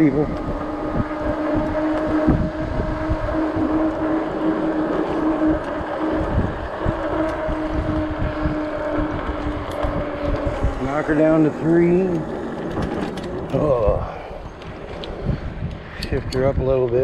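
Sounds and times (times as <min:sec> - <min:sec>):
electric motor whine: 0:00.0 - 0:17.0
wind buffeting on microphone: 0:00.0 - 0:17.0.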